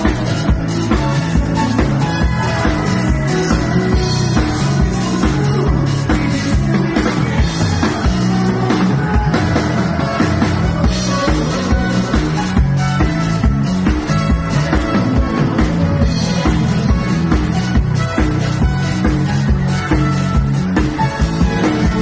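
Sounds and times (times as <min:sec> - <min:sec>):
live dance band playing: 0:00.0 - 0:22.0.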